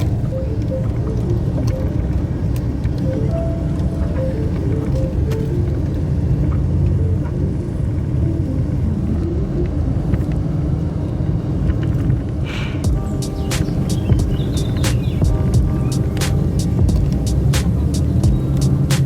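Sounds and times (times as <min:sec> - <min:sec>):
engine rumbling: 0:00.0 - 0:19.0.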